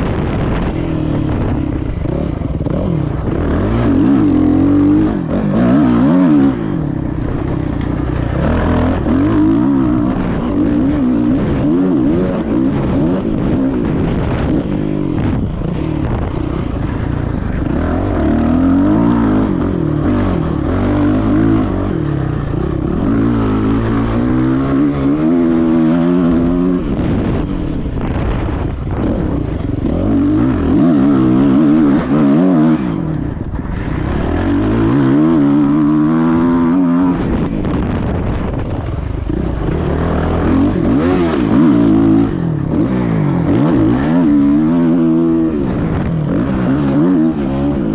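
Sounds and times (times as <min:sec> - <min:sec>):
motocross bike engine revving: 0:00.0 - 0:47.9.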